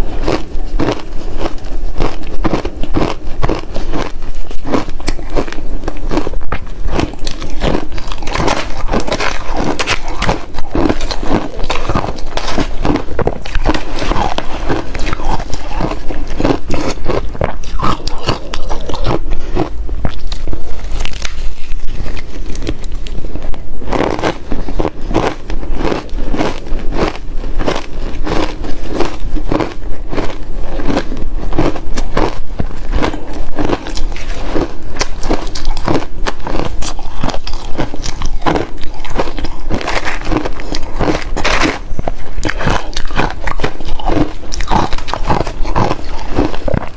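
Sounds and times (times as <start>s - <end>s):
crunching ice between teeth: 0.0s - 46.9s.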